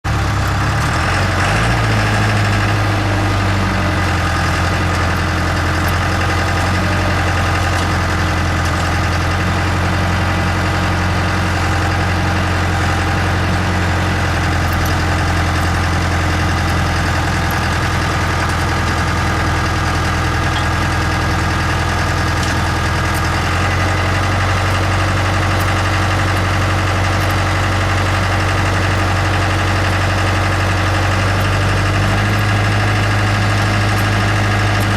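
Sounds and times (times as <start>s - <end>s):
loader engine humming: 0.0s - 34.9s.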